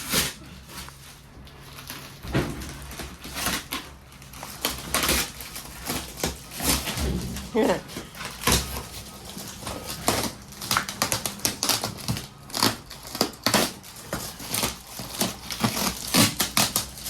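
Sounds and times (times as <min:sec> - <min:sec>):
crinkling: 0:00.0 - 0:17.0.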